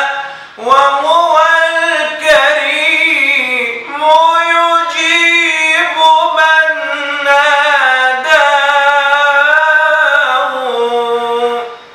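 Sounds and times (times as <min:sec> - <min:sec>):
man singing unaccompanied: 0:00.0 - 0:11.9.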